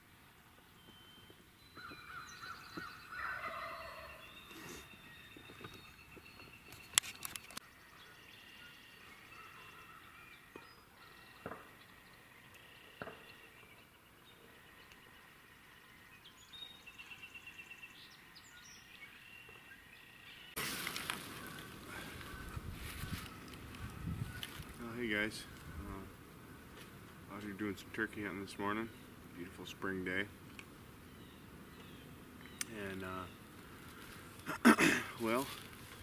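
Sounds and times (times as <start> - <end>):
faint distant birdsong: 0.0 - 36.0.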